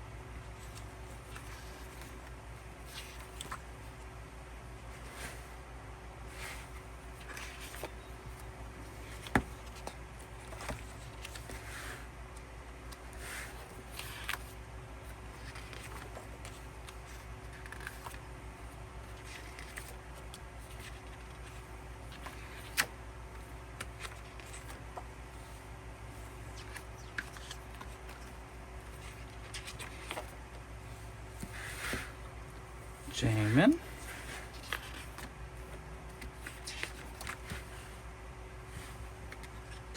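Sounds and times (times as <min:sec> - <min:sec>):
steady low hum: 0:00.0 - 0:39.9
paper cards rustling: 0:00.5 - 0:04.0, 0:06.2 - 0:39.9.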